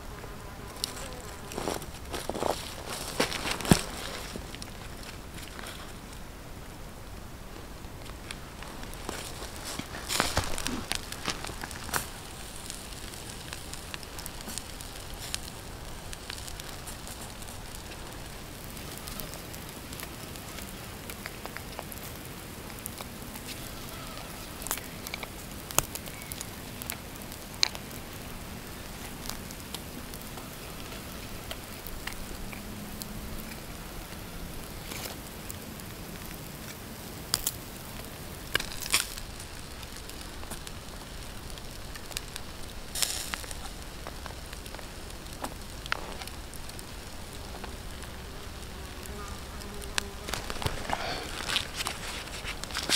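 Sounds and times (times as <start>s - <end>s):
campfire coals crackling and hissing: 0.0s - 52.9s.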